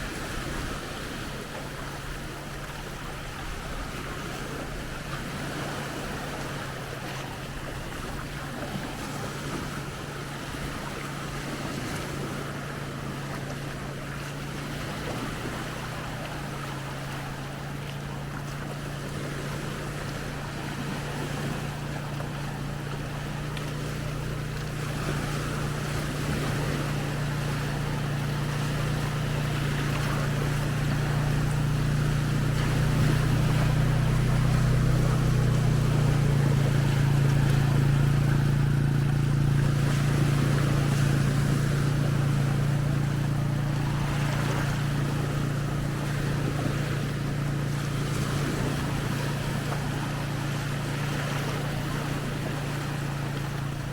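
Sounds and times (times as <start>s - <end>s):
low engine drone: 0.0s - 53.9s
small waves breaking: 0.0s - 53.9s.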